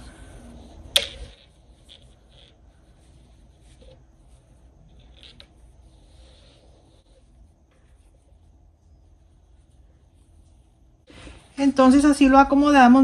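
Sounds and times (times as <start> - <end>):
yarn cord rustling through stitches: 0.0 - 12.8.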